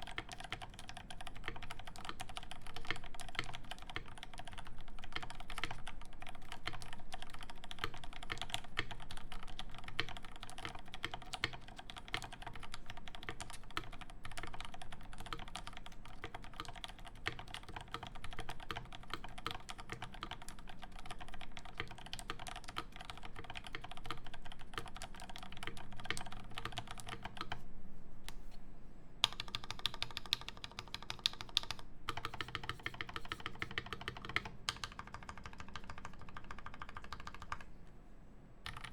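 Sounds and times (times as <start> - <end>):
fast typing on keyboard: 0.0 - 27.6, 29.2 - 37.7, 38.7 - 38.9.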